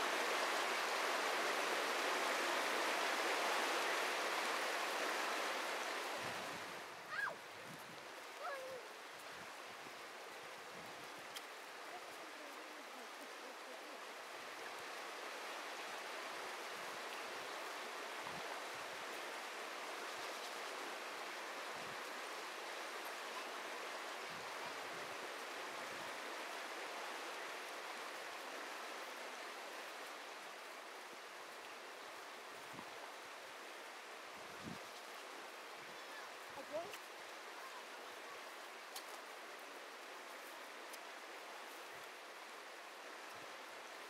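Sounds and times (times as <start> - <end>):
river water flowing over riffles: 0.0 - 44.0.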